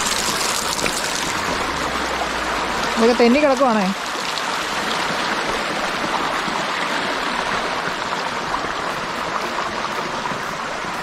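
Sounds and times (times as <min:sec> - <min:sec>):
stream running over stones: 0:00.0 - 0:11.0.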